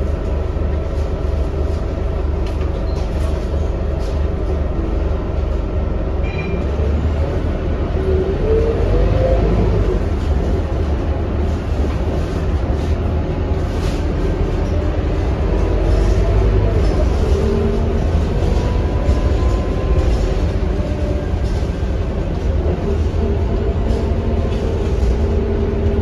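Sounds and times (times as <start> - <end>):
bus diesel engine rumbling: 0.0 - 26.0
road noise: 0.0 - 26.0.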